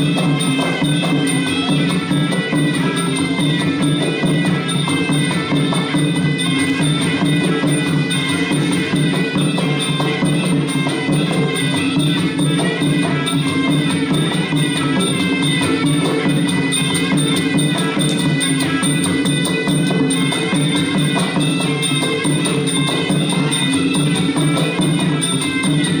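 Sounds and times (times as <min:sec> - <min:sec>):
continuous drumming: 0:00.0 - 0:26.0
reed pipe melody: 0:00.0 - 0:26.0.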